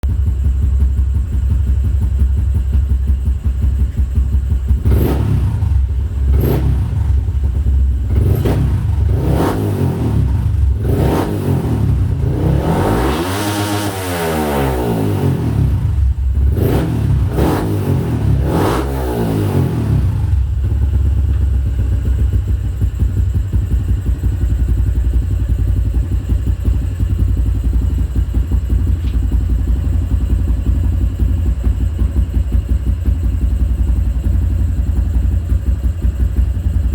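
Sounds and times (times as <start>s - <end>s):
motorcycle engine revving and idling: 0.0s - 36.9s.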